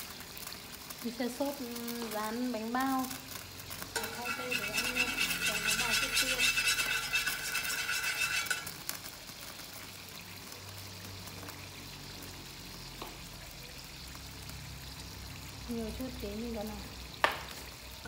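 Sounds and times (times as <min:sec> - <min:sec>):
oil pouring into pan: 0:00.0 - 0:18.0.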